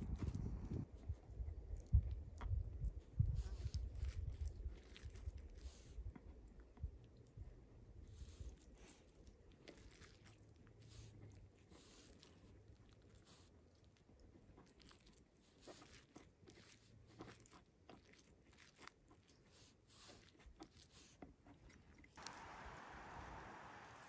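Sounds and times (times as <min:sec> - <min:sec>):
hands squelching raw meat: 0:01.3 - 0:07.2, 0:08.2 - 0:23.9.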